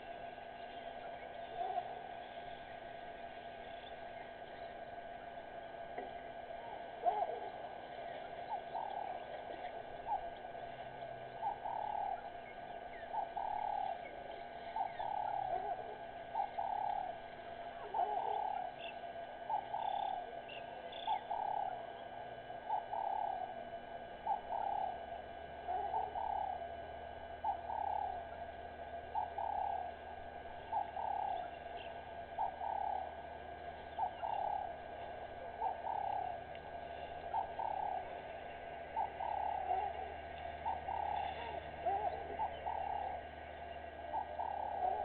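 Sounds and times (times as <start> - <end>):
bird cooing call: 0.0 - 45.0.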